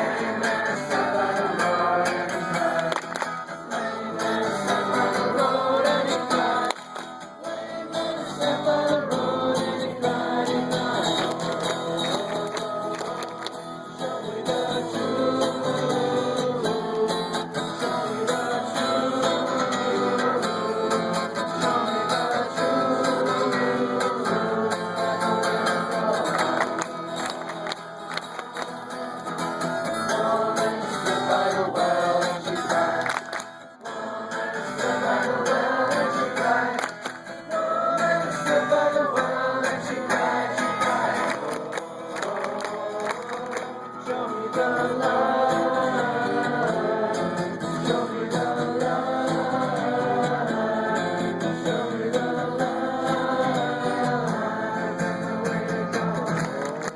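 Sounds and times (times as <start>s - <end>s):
acoustic guitar strumming: 0.0s - 56.9s
group singing: 0.0s - 56.9s.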